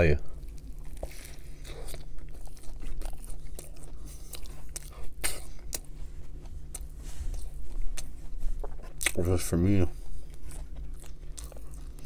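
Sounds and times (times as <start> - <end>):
faint low hum: 0.0 - 12.0
biting into a burger: 0.3 - 12.0
moist chewing: 0.3 - 12.0.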